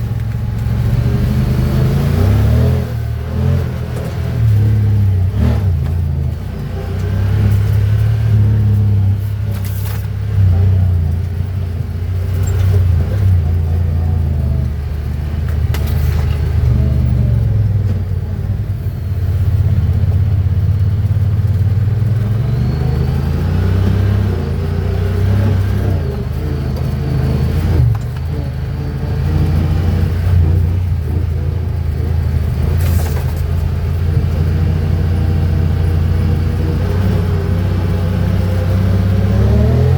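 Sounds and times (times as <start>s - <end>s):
engine revving on a trail: 0.0s - 39.9s.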